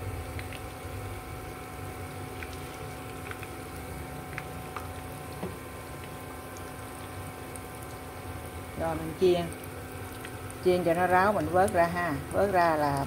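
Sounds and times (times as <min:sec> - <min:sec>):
oil bubbling and sizzling: 0:00.0 - 0:13.0.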